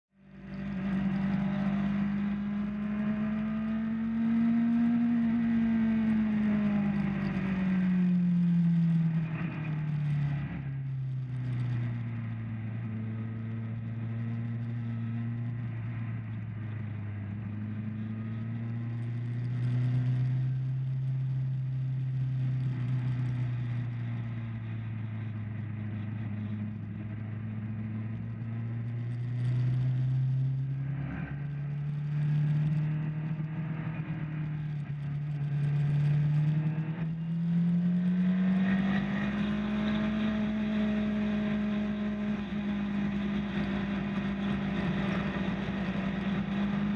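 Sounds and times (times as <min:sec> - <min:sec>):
motorcycle engine under power: 0:00.6 - 0:46.9.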